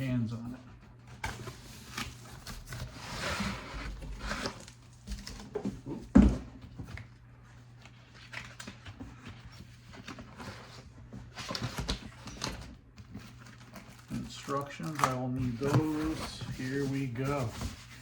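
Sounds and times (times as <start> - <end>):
cardboard packaging rustling: 0.8 - 18.0.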